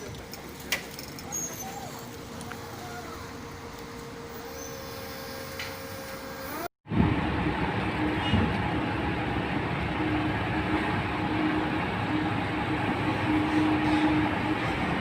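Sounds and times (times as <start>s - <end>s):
heavy diesel machinery droning: 1.4s - 15.0s.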